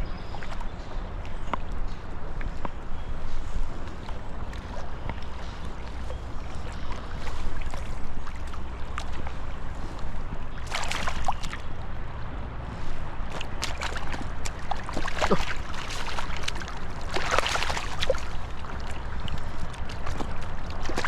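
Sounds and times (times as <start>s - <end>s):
flowing river water: 0.0s - 21.0s
wind buffeting the microphone: 0.0s - 21.0s.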